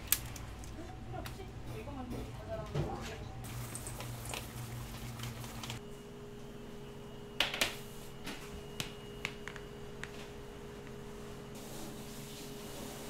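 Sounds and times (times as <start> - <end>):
steady machine hum: 0.0 - 11.8.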